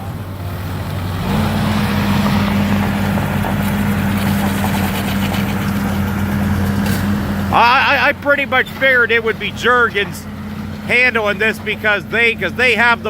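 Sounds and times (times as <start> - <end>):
debris clattering: 0.0 - 13.0
excavator diesel engine running: 0.0 - 13.0.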